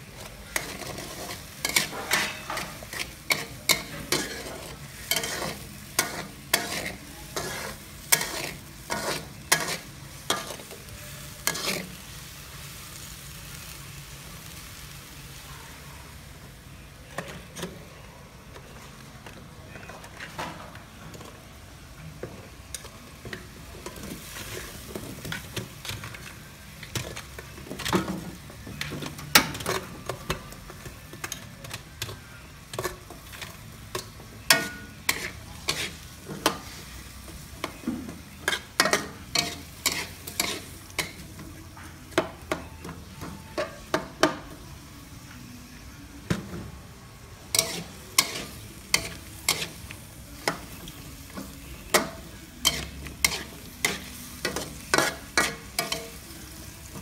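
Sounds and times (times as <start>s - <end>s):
frying sizzle: 0.0s - 57.0s.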